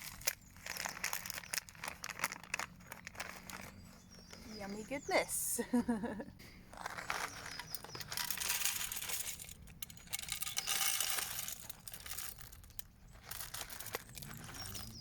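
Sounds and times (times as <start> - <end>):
dried bird food pouring: 0.0 - 4.5, 6.7 - 15.0
plastic bag crinkling and rustling: 0.0 - 5.0, 6.7 - 15.0.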